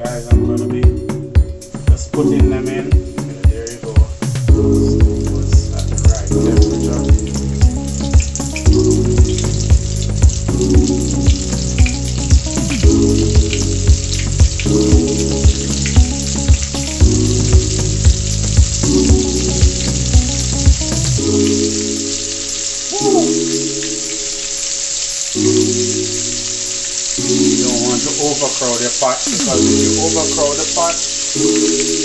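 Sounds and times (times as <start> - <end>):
background music with beat: 0.0 - 24.4, 25.3 - 32.0
fish deep-frying in oil: 0.0 - 32.0.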